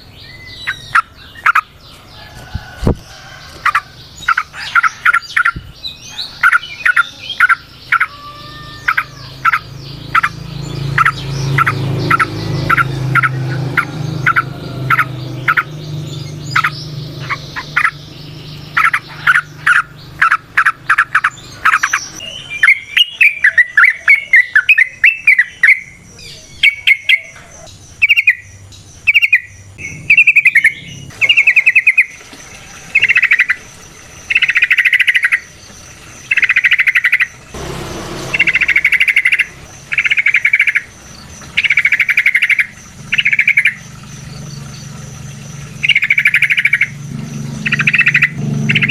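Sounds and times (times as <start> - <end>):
bird singing: 0.0 - 48.9.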